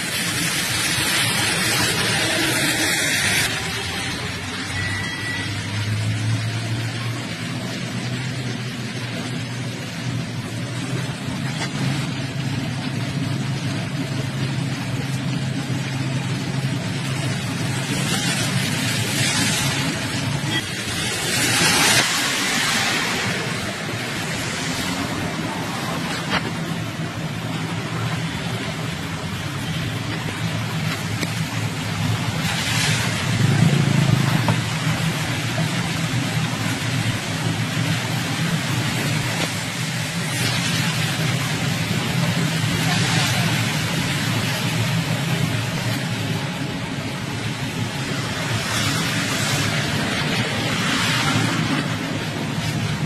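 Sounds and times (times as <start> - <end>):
road noise: 0.0 - 53.0
traffic rumble: 0.0 - 53.0
vehicle engine humming: 0.0 - 53.0.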